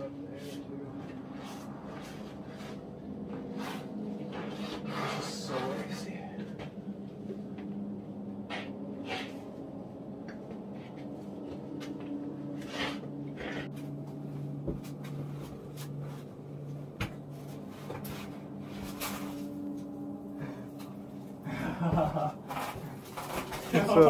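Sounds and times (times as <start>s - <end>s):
low sustained hum: 0.0s - 24.0s.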